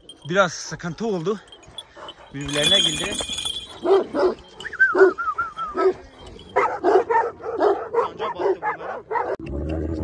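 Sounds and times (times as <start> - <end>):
dogs barking: 0.8 - 9.5.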